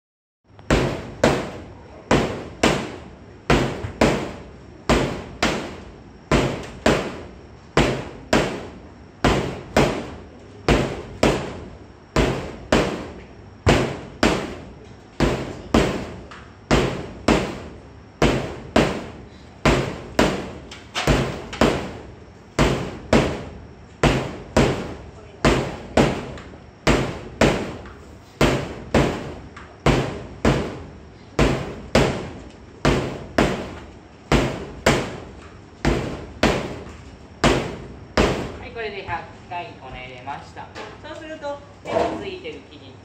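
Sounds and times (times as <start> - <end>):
dough slapping on steel counter: 0.7 - 38.6.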